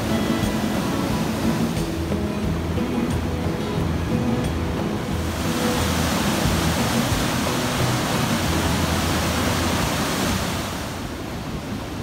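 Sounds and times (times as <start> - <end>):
river rushing over a weir: 0.0 - 12.0.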